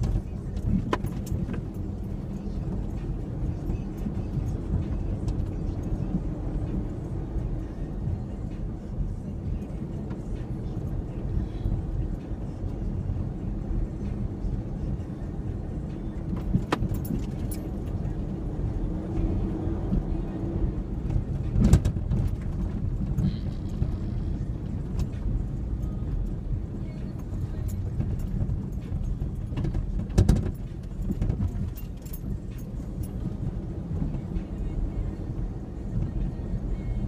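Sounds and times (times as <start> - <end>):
pickup engine rumble: 0.0 - 37.0.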